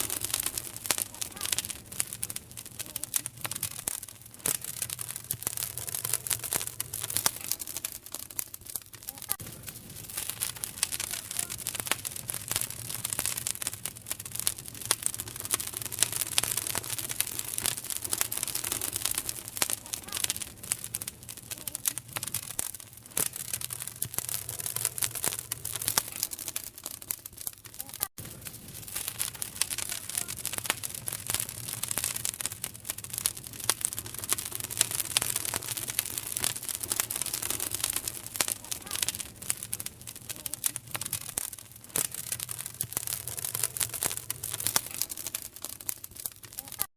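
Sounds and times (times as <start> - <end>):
fire crackling: 0.0 - 46.9.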